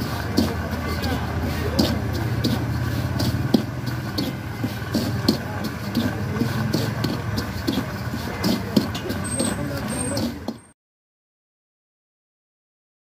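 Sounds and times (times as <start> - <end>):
metal scraper stirring sand: 0.0 - 10.7
street traffic hum: 0.0 - 10.8.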